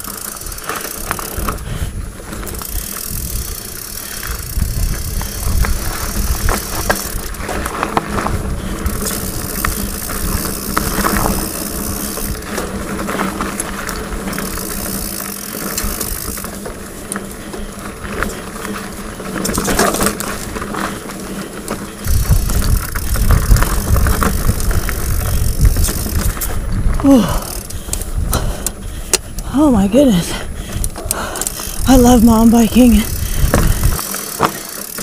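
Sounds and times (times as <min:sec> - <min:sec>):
freewheel buzzing: 0:00.0 - 0:29.6, 0:30.4 - 0:35.0
bike rattling over bumps: 0:00.0 - 0:35.0
bike tyres crunching over dirt: 0:00.0 - 0:35.0.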